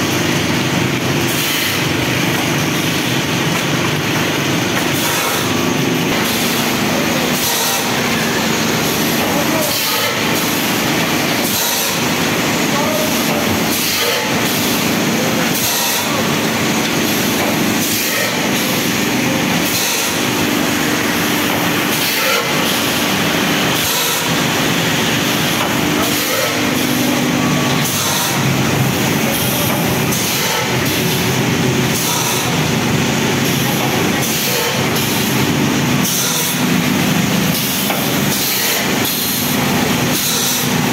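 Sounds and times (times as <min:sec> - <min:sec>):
machinery humming: 0:00.0 - 0:40.9.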